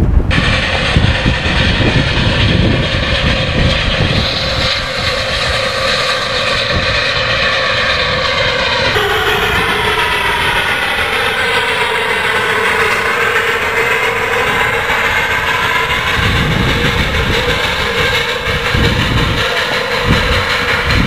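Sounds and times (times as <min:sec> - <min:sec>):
low rumbles: 0:00.0 - 0:21.0
miniature steam locomotive running: 0:00.0 - 0:21.0.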